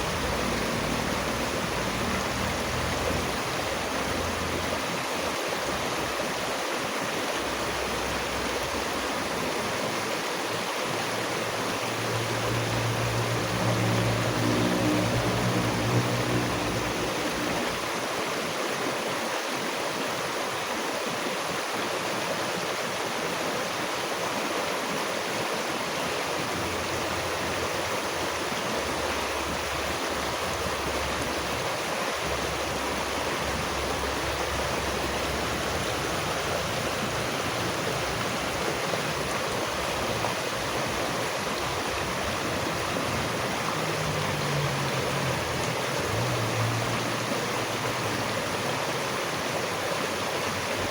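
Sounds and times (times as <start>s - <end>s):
stream flowing: 0.0s - 50.9s.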